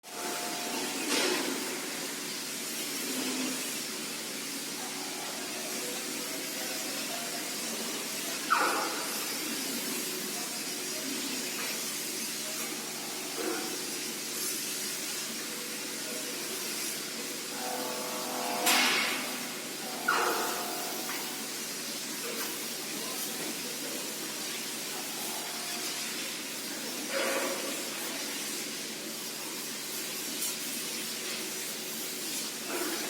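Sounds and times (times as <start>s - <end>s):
lathe machining hiss: 0.1s - 33.0s.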